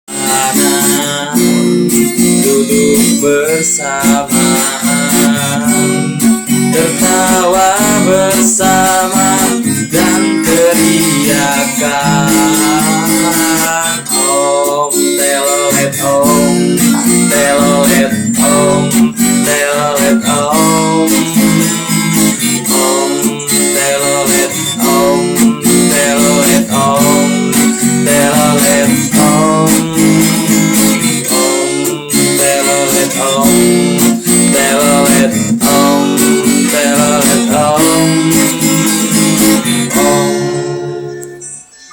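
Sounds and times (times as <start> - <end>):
strummed acoustic guitar: 0.1 - 41.9.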